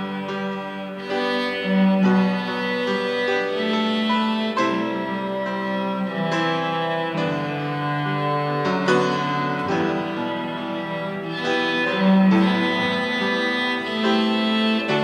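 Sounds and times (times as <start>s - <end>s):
cello melody: 0.0s - 15.0s
piano accompaniment: 0.0s - 15.0s.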